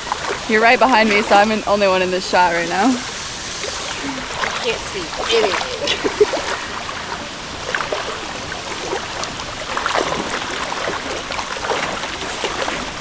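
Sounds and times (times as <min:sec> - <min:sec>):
legs sloshing through water: 0:00.0 - 0:13.0
stream rushing: 0:00.0 - 0:13.0.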